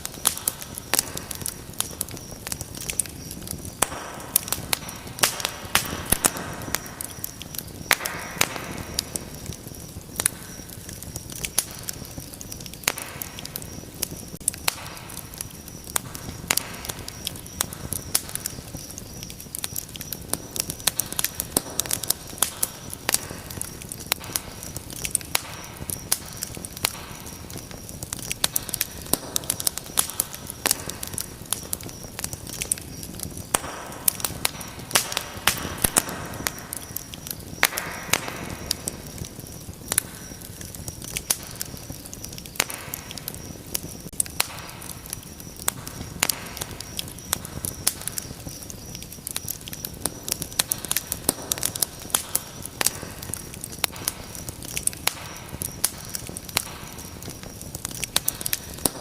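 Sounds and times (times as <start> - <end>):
fire crackling and popping: 0.0 - 59.0
soft hiss of flames: 0.0 - 59.0.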